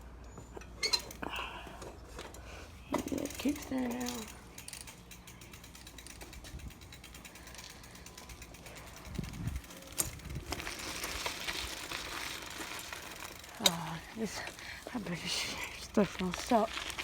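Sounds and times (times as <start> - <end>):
bike freewheel ticking: 2.9 - 17.0.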